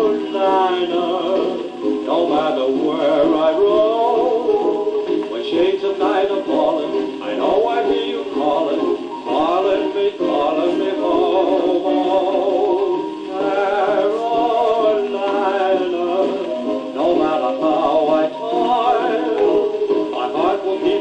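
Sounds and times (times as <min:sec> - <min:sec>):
man singing: 0:00.0 - 0:21.0
old dance band record: 0:00.0 - 0:21.0.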